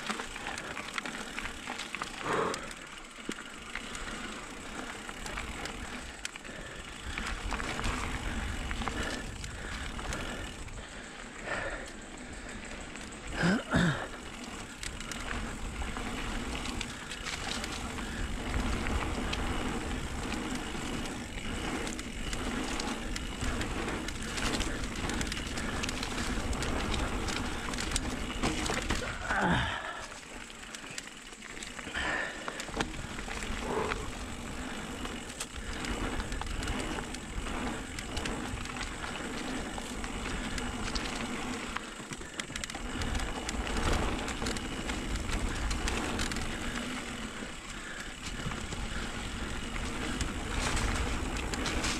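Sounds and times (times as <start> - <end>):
bike rattling and clicking: 0.0 - 51.9
tyres crunching over dirt: 0.0 - 51.9.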